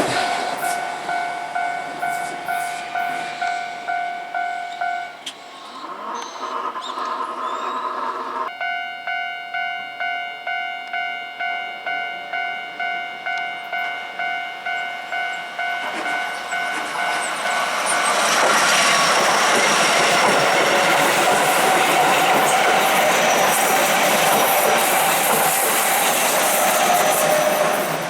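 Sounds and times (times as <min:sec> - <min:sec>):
level crossing warning bell: 0:00.0 - 0:05.6, 0:08.5 - 0:28.0
electric train passing: 0:00.0 - 0:28.0.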